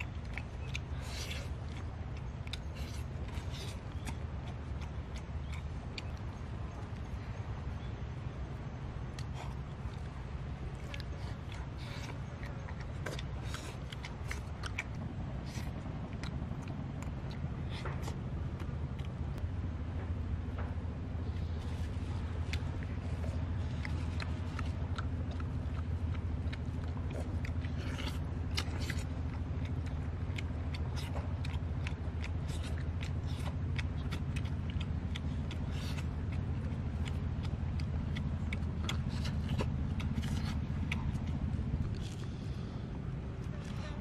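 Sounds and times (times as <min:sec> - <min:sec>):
chewing clicks and smacks: 0:00.0 - 0:44.0
steady low rumble: 0:00.0 - 0:44.0.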